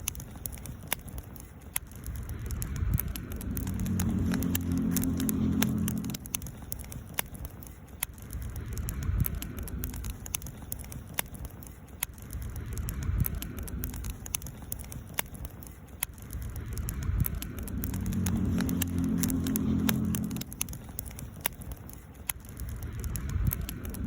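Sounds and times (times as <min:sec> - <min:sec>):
low fire rumble: 0:00.0 - 0:24.0
wood fire crackling: 0:00.0 - 0:24.0.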